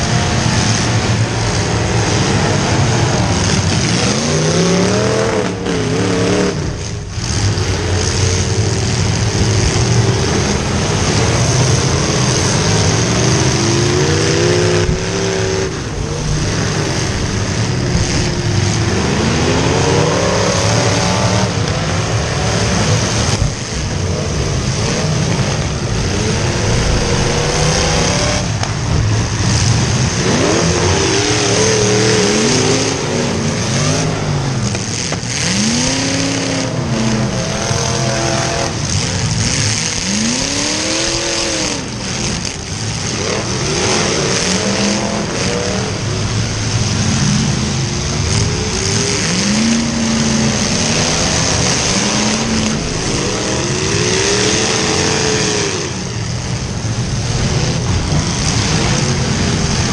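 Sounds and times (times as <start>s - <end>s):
car engines revving hard: 0.0s - 59.9s
loud engine rumble: 0.0s - 59.9s.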